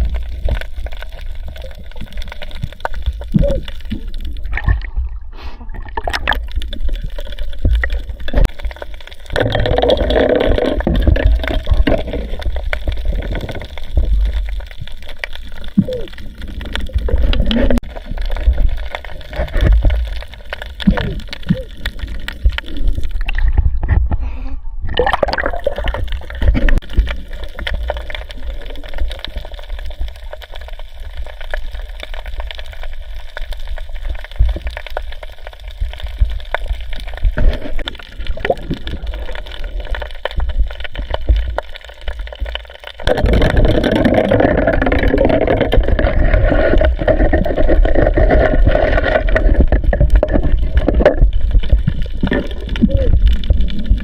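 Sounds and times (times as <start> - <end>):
water splashes: 0.0 - 24.0, 24.9 - 54.0
low rumble of moving water: 0.0 - 54.0
water sloshing and gurgling: 0.0 - 54.0.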